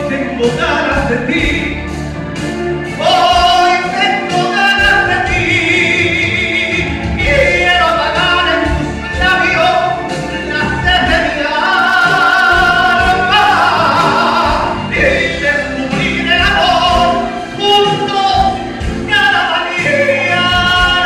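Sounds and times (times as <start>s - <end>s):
man singing a ballad: 0.0s - 2.0s, 2.8s - 21.0s
accompanying music: 0.0s - 21.0s.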